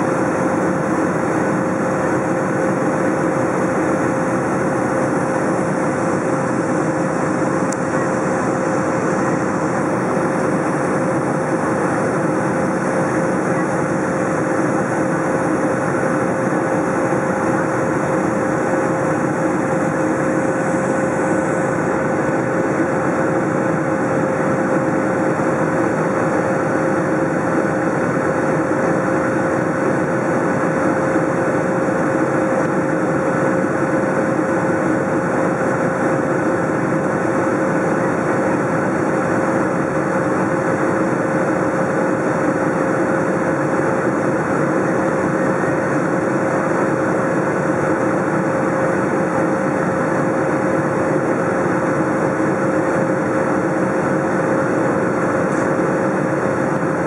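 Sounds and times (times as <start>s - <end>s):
constant hum-like tone: 0.0s - 57.0s
jet engine and airflow noise: 0.0s - 57.0s.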